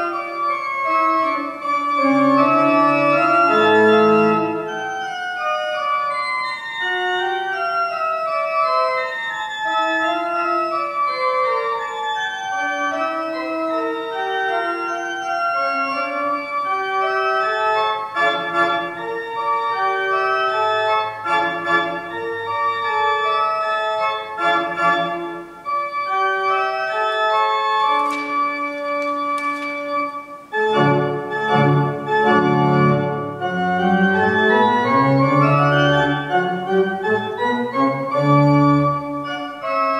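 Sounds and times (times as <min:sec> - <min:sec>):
pipe organ playing: 0:00.0 - 0:39.9.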